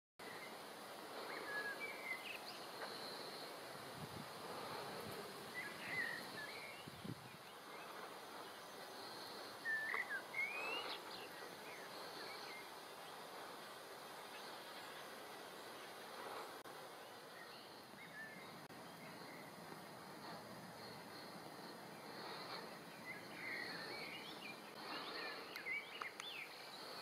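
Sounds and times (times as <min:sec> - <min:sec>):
small birds chirping and whistling: 0:00.2 - 0:03.6, 0:04.4 - 0:27.0
faint steady hiss: 0:00.2 - 0:27.0.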